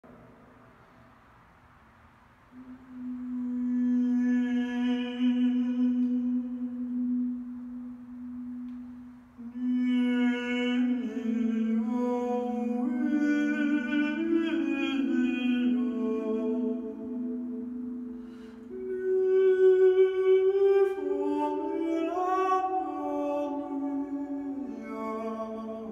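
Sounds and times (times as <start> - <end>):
man singing held notes: 2.5 - 25.9.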